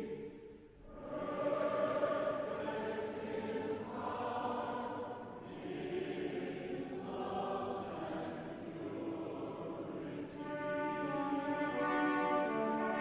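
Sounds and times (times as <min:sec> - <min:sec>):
choir singing sustained chords: 0:00.0 - 0:13.0.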